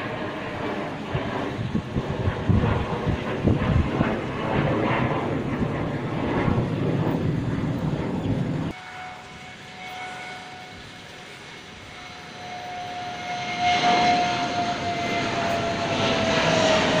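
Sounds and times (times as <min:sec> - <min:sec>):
jet engine whine: 0:00.0 - 0:17.0.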